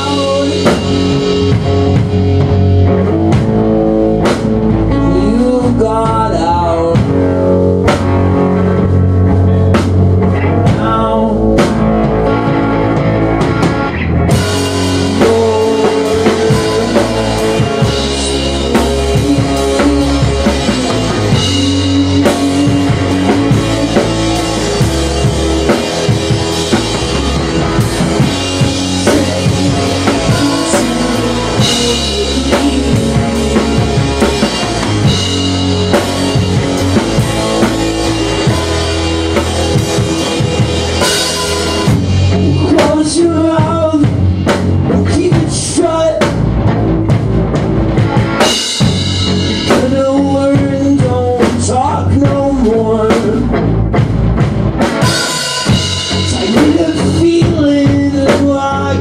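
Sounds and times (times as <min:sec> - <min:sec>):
drum kit with cymbals: 0:00.0 - 0:59.0
electric guitar through an amp: 0:00.0 - 0:59.0
second guitar or bass: 0:00.0 - 0:59.0.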